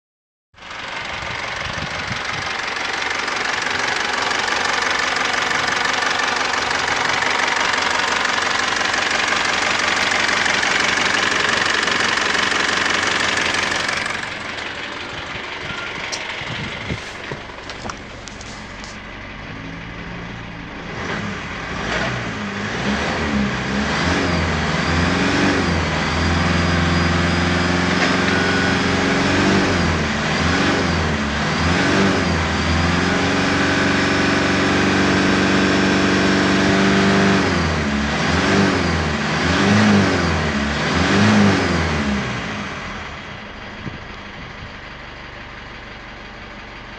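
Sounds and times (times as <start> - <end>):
diesel engine revving: 0.6 - 46.9.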